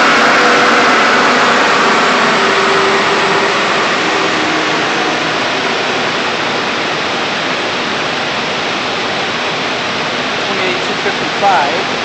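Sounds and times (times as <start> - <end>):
car engine idling: 0.0 - 9.6
dyno rollers and tyres spinning down: 0.0 - 11.6.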